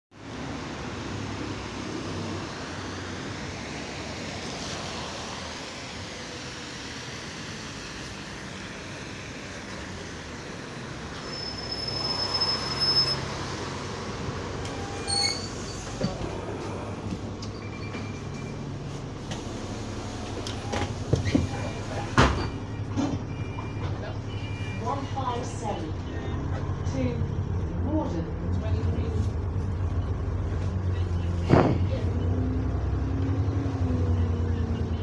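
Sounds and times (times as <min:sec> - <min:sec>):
bus engine and tyres on wet road: 0:00.1 - 0:35.0.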